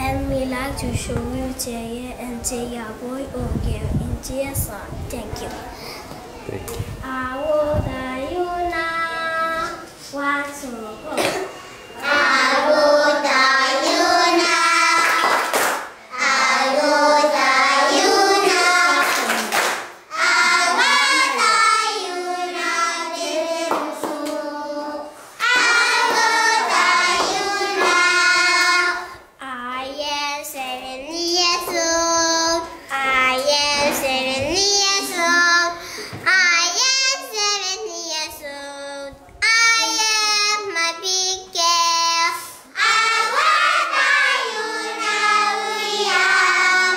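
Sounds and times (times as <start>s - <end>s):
children singing together: 7.1s - 46.9s.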